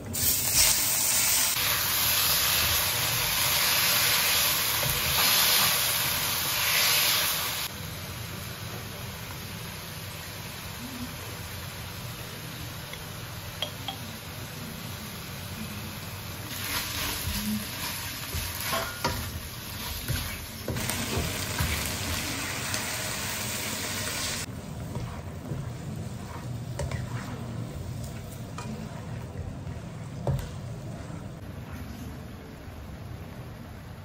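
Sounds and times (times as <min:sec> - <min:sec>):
chicken sizzling in a wok: 0:00.1 - 0:28.1.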